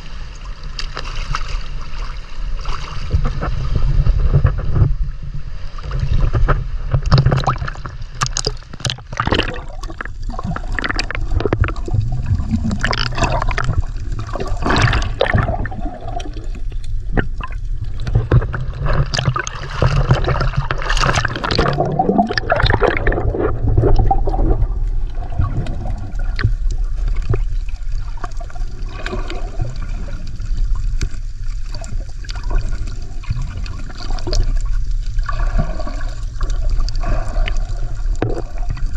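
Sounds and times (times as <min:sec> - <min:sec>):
low underwater rumble: 0:00.0 - 0:38.9
water sloshing and splashing: 0:00.0 - 0:38.9.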